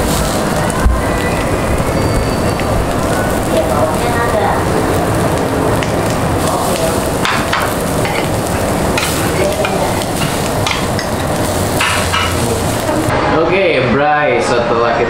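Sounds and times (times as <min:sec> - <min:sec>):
meat sizzling on a grill: 0:00.0 - 0:13.1.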